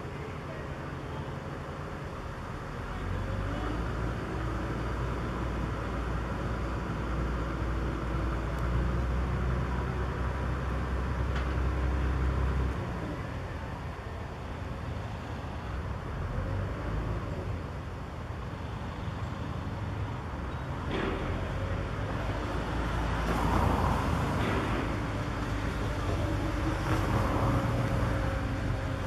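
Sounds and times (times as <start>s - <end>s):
crane engine rumbling: 0.0s - 29.0s.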